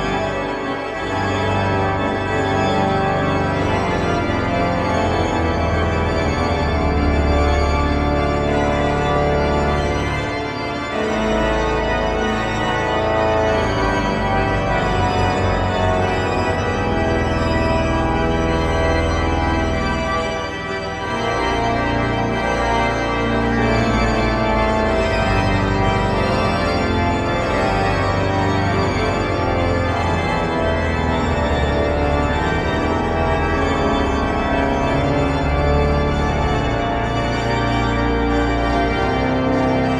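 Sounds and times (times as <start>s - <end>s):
pipe organ playing full chords: 0.0s - 39.9s.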